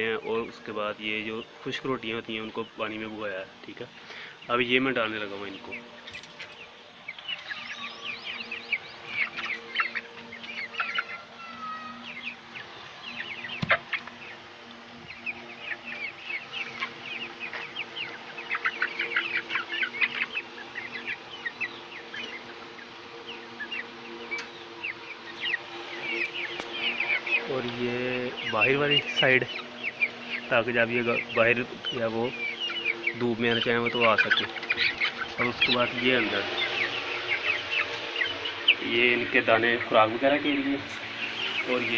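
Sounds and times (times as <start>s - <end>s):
chickens cheeping and clucking: 0.0s - 41.9s
steady low hum: 0.0s - 41.9s.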